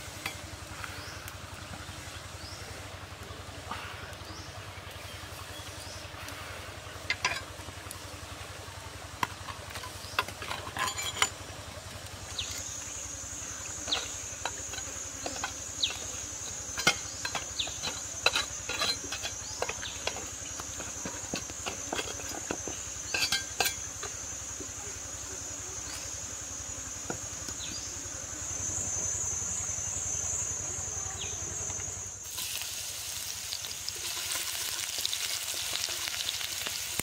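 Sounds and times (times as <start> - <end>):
steady high buzz: 0.0 - 37.0.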